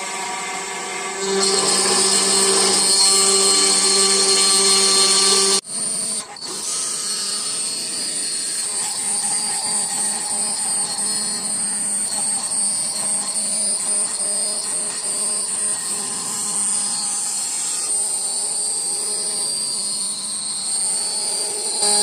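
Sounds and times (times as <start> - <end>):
small electric power tool whining: 0.0 - 22.0.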